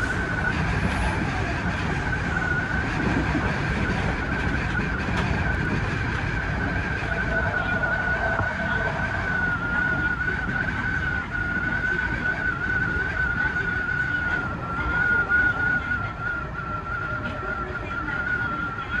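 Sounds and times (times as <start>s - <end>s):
high electric train whine: 0.0s - 19.0s
wheels rumbling on rails: 0.0s - 19.0s.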